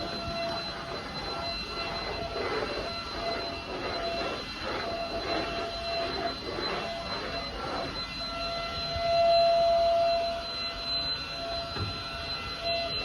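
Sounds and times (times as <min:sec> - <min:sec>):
vacuum cleaner motor whining: 0:00.0 - 0:13.0.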